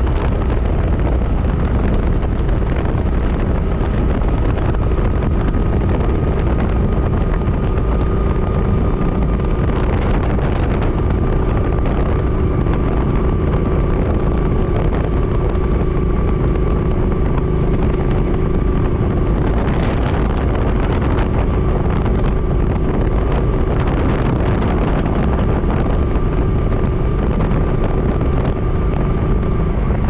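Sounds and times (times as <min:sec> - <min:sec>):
motorcycle engine running: 0:00.0 - 0:30.0
wind buffeting microphone: 0:00.0 - 0:30.0.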